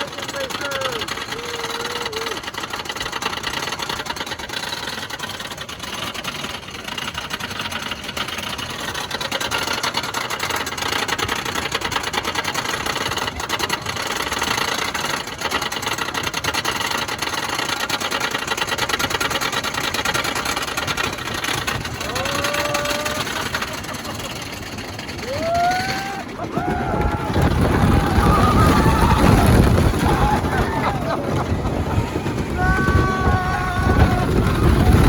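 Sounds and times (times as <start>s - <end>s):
roller coaster lift chain clatter: 0.0s - 35.0s.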